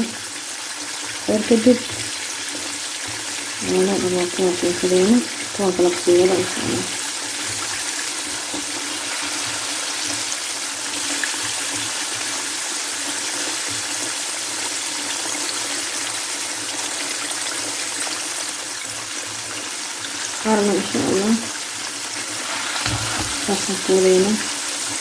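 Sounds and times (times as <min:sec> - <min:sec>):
hot oil sizzling: 0:00.0 - 0:25.0.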